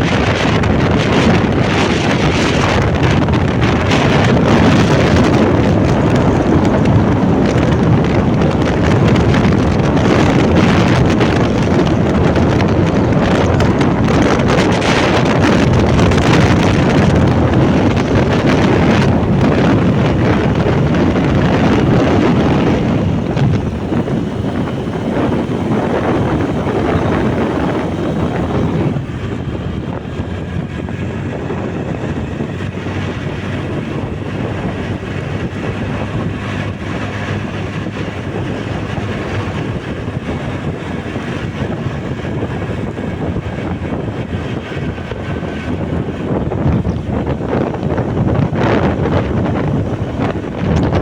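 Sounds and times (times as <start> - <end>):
motorbike running: 0.0 - 51.0
wind buffeting microphone: 0.0 - 51.0.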